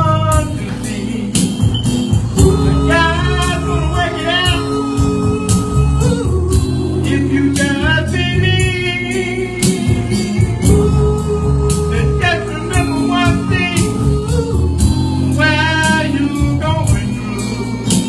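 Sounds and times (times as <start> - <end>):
gospel band playing: 0.0 - 18.0
person singing lead: 2.4 - 18.0.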